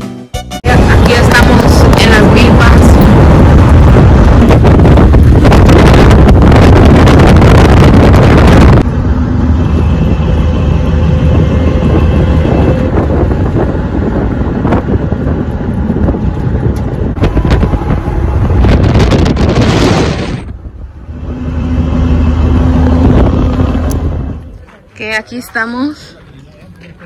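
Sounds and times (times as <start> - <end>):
truck road rumble: 0.4 - 27.0
wind buffeting microphone: 0.6 - 24.7.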